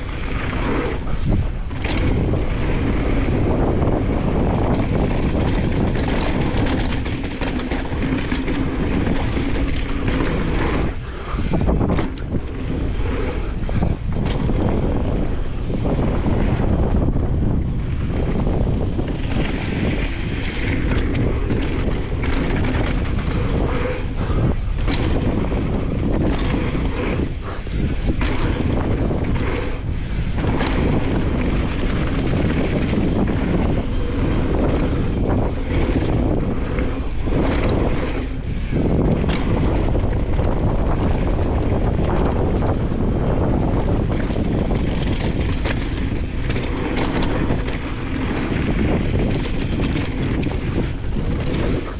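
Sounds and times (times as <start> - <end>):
bike knocks and rattles: 0.0 - 51.9
tyre noise on dirt: 0.0 - 51.9
wind on microphone: 0.0 - 51.9.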